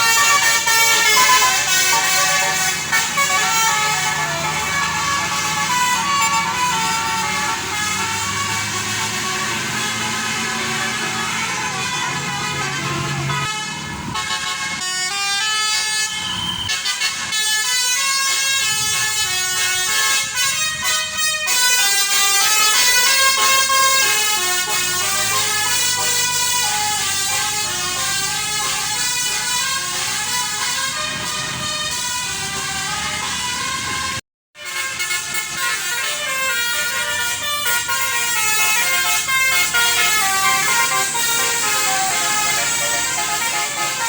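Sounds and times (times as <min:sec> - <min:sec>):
musical bus air horn tune: 0:00.0 - 0:44.0.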